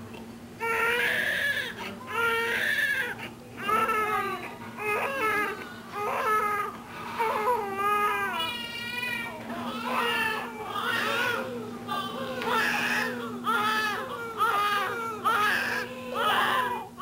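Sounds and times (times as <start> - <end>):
newborn baby crying: 0.6 - 17.0.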